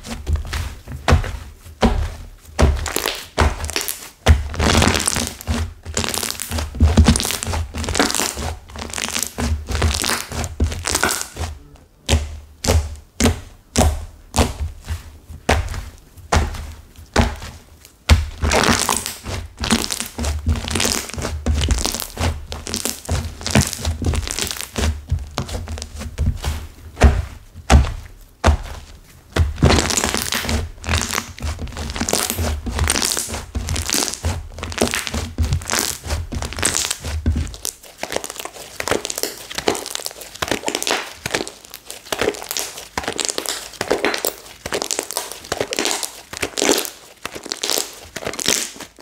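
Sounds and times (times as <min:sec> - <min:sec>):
crunchy slime crackling: 0:00.0 - 0:49.0.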